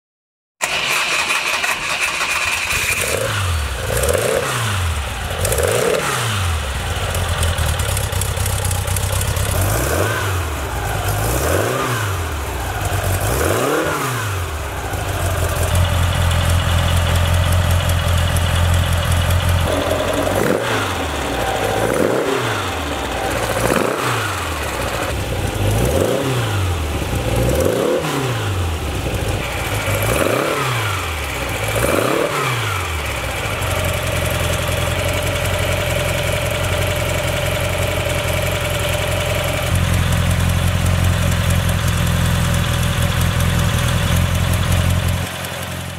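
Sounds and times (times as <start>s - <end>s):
car engine revving: 0.6s - 45.9s
car engine idling: 6.4s - 13.7s, 14.3s - 27.8s, 28.5s - 45.9s.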